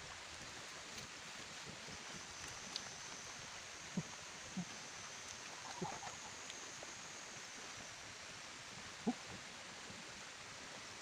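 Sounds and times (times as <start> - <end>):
rainforest background noise: 0.0 - 11.0.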